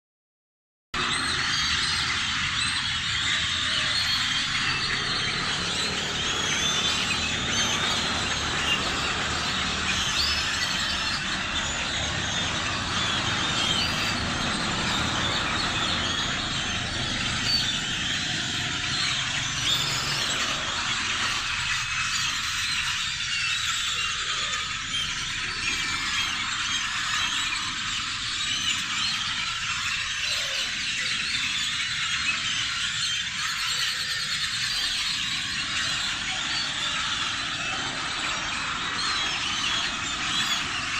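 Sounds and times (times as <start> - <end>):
flock of birds chirping: 1.0 - 40.9.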